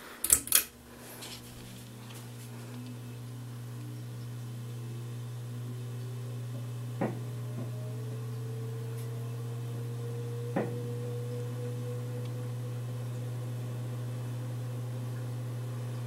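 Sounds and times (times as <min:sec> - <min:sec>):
ceiling fan motor hum: 0:00.0 - 0:16.0
faint rising whine: 0:00.8 - 0:16.0.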